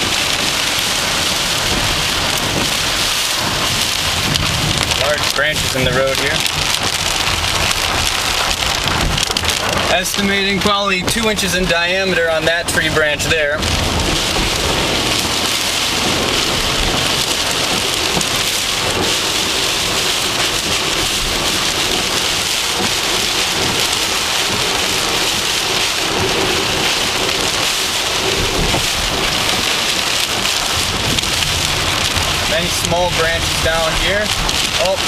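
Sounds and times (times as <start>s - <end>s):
heavy rain pelting a car: 0.0s - 35.0s.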